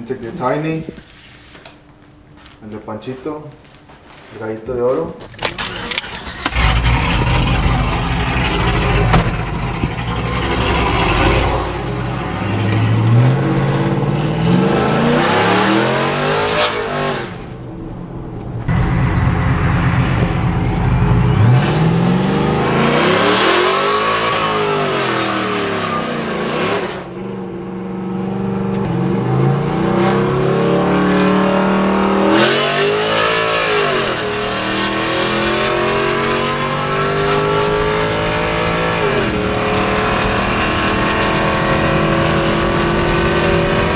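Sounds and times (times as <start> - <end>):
truck engine accelerating: 5.5 - 17.5, 18.6 - 43.9.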